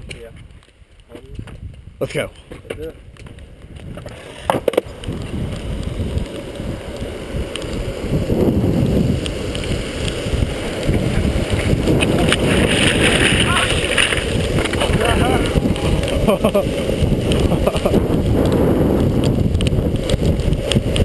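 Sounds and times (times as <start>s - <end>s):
longboard wheels rolling on wet asphalt: 0.0s - 21.0s
wind on microphone: 0.0s - 21.0s.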